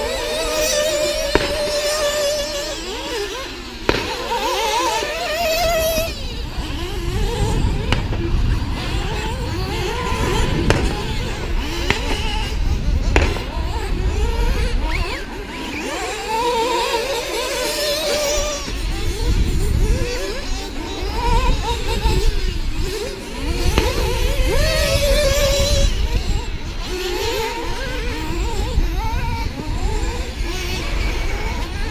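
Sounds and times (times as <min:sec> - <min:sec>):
rc car motors whining: 0:00.0 - 0:31.9
wind rumble on microphone: 0:00.0 - 0:31.9.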